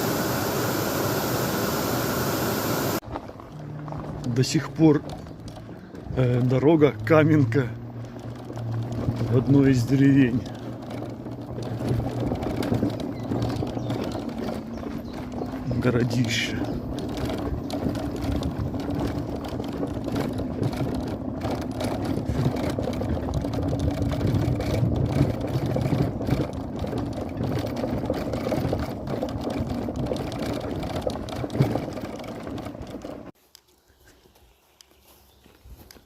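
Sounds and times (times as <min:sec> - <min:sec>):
vehicle engine and road noise: 0:00.0 - 0:36.0.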